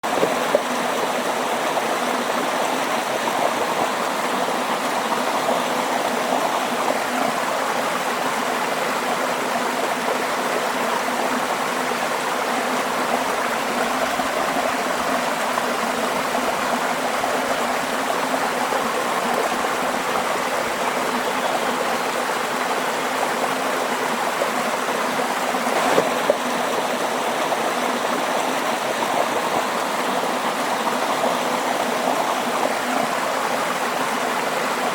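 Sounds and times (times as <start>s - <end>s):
stream water gurgling: 0.0s - 34.9s.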